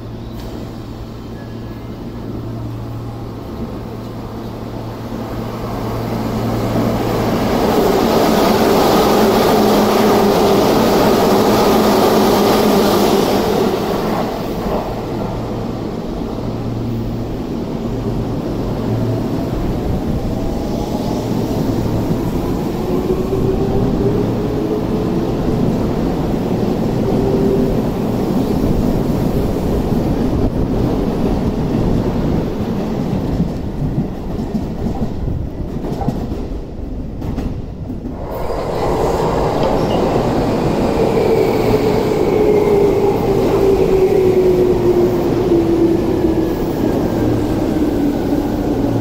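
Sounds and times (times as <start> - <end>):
train rumble and rush: 0.0 - 49.0.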